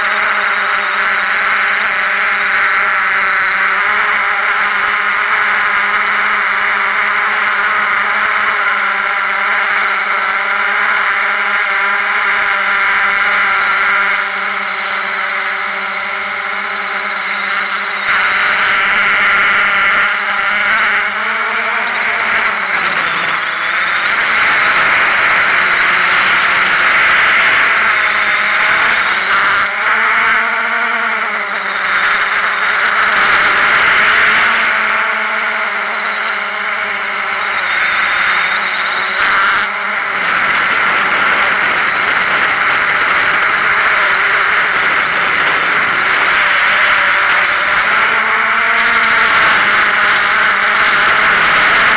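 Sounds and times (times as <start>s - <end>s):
drone motors and propellers whining: 0.0s - 51.9s.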